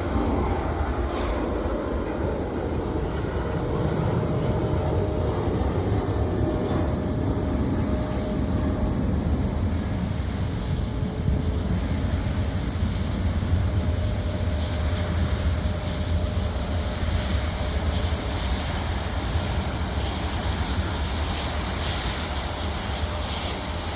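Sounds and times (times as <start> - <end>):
jet engines rumbling: 0.0 - 23.9.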